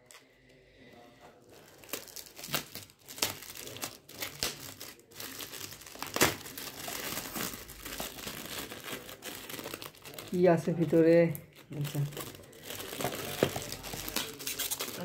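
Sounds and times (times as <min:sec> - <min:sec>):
foil gift wrap crinkling and tearing: 0:01.2 - 0:15.0.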